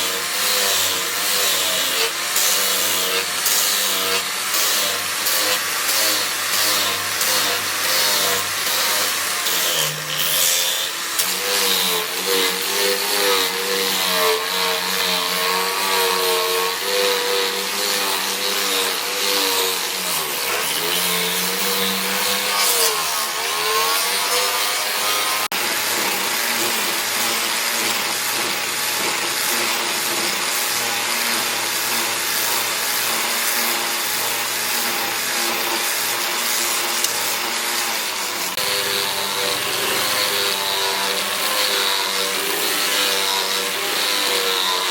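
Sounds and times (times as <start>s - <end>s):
electric grinder rasping: 0.0s - 44.9s.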